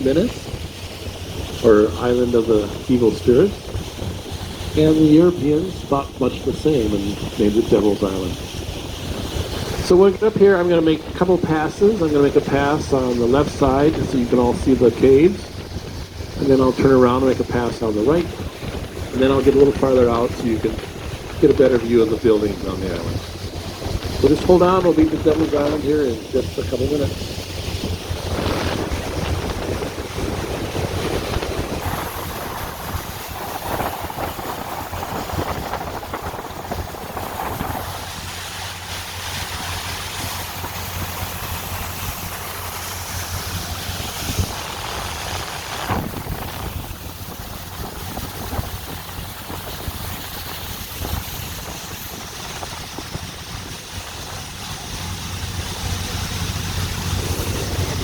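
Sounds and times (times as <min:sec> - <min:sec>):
boat engine humming: 0:00.0 - 0:58.0
water rushing past hull: 0:00.0 - 0:58.0
wind buffeting microphone: 0:00.0 - 0:58.0.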